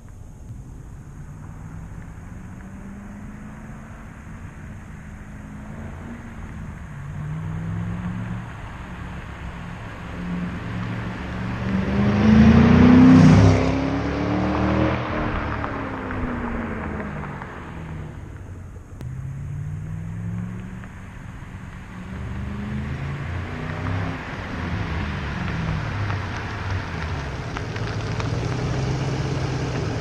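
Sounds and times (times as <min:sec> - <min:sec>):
car exhaust accelerating past: 0:00.6 - 0:30.0.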